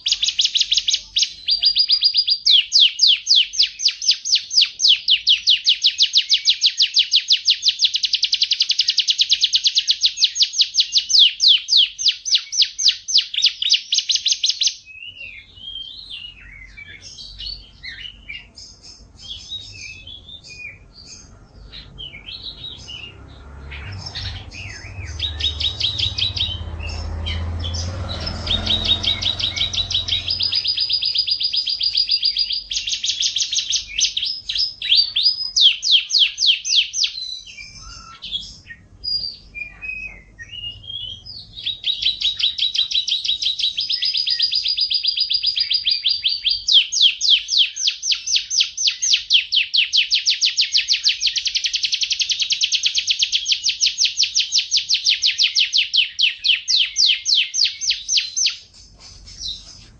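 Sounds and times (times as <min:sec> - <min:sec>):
canary chirps: 0:00.0 - 0:59.9
canary singing trills: 0:00.0 - 0:59.9.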